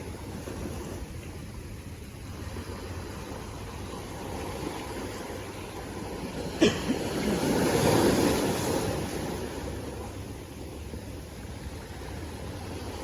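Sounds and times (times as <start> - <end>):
rush of water: 0.0 - 13.0
sea waves washing: 0.0 - 13.0.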